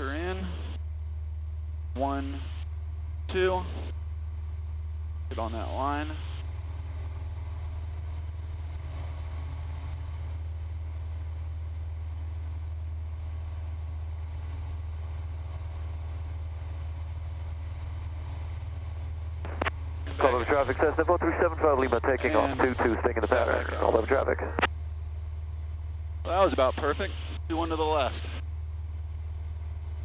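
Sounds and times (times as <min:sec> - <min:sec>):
aircraft engine drone: 0:00.0 - 0:30.0.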